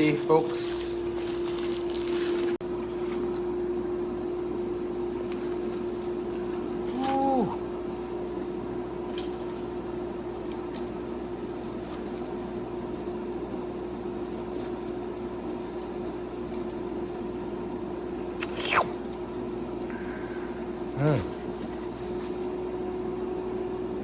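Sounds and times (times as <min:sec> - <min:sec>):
appliance fan humming: 0:00.0 - 0:24.0.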